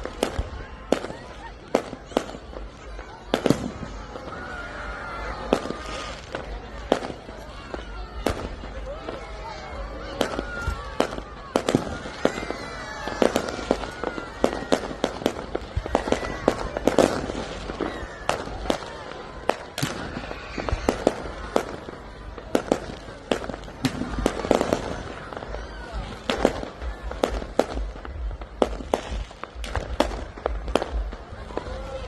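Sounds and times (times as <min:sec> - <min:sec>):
fireworks bangs and cracks: 0:00.0 - 0:32.0
people's voices: 0:00.0 - 0:32.0.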